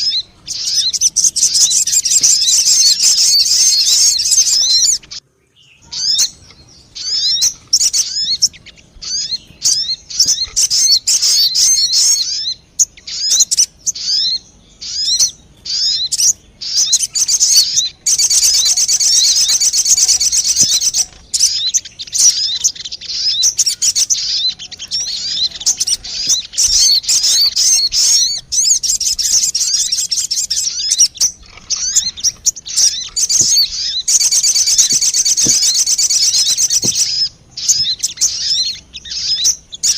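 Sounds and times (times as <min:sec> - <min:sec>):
bird lure twittering chirps: 0:00.0 - 0:05.2, 0:05.9 - 0:39.9.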